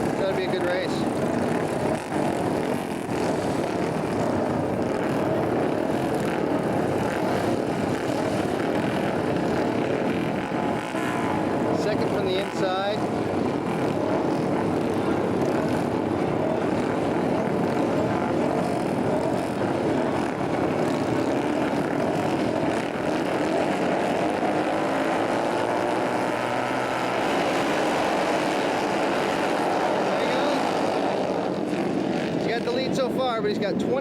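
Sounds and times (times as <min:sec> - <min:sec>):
racing motorcycle engines: 0:00.0 - 0:34.0.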